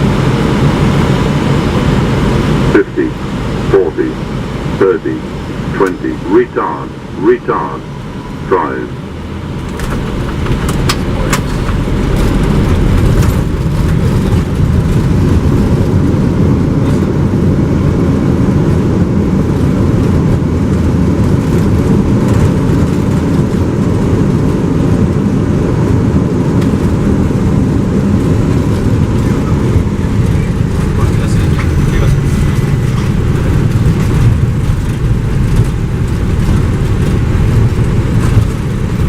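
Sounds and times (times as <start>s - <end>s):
aircraft engines and runway rumble: 0.0s - 39.0s.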